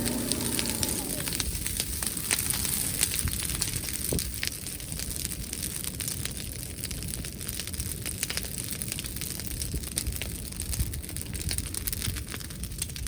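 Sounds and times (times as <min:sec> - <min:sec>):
bonfire crackling and popping: 0:00.0 - 0:13.0
wind rumble on microphone: 0:00.0 - 0:13.0.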